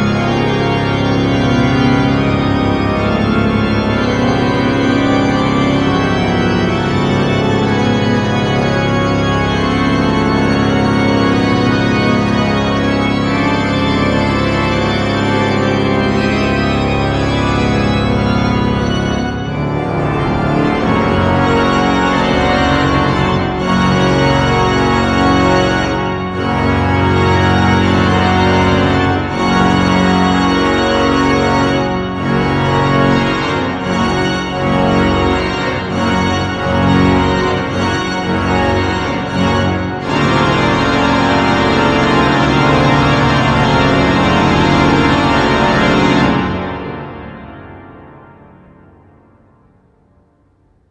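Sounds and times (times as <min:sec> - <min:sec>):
pipe organ chords: 0:00.0 - 0:50.2.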